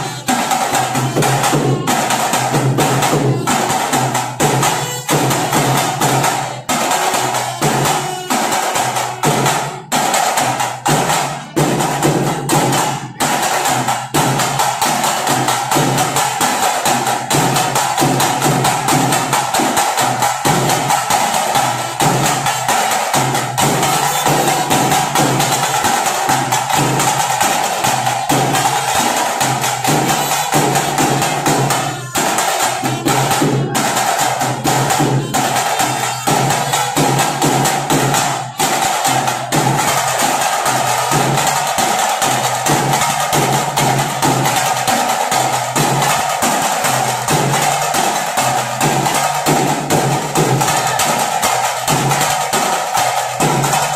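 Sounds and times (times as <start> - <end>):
fast continuous drumming: 0.0 - 53.9.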